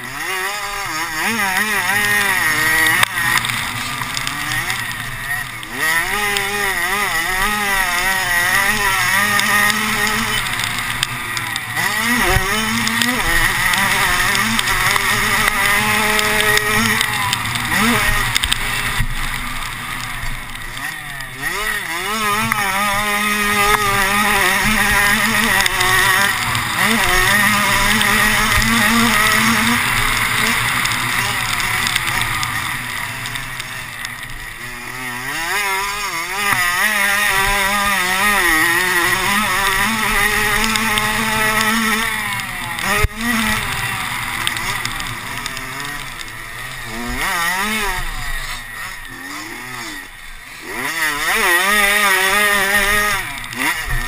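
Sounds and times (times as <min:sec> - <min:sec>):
racing engine revving: 0:00.0 - 0:54.0
steady rush of noise: 0:00.0 - 0:54.0.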